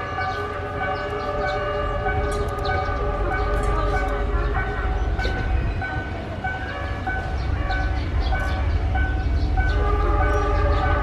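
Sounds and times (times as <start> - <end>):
level crossing warning tone: 0.0 - 11.0.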